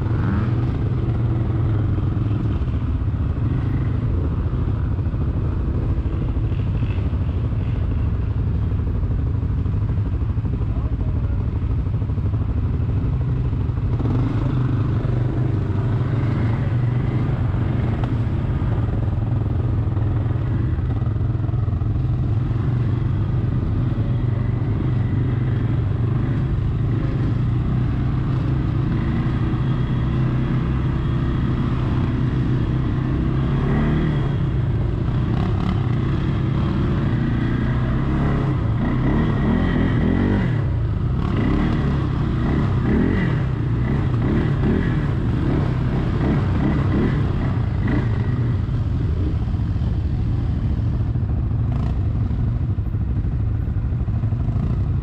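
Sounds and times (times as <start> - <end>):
quad bike engines revving: 0.0 - 55.0.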